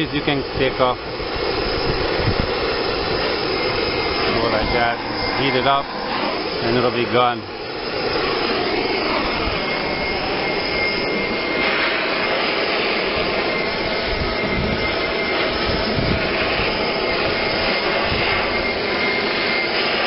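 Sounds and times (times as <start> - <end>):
propane torch roaring: 0.0 - 20.0.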